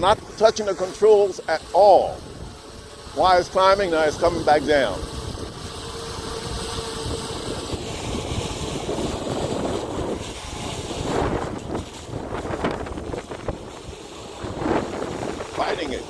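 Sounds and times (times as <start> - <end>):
gusty wind on microphone: 1.4 - 16.0.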